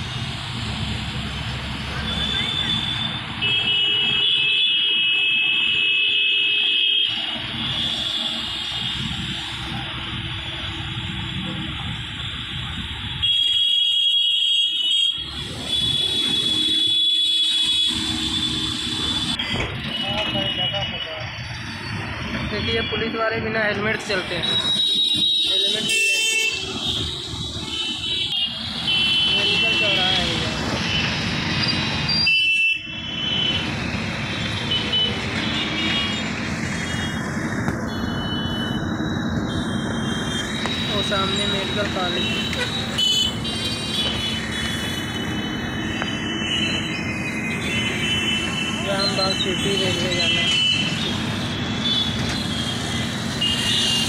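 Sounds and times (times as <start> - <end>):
vehicle engines: 0.0 - 13.7, 15.1 - 54.0
low rumble of street traffic: 0.0 - 54.0.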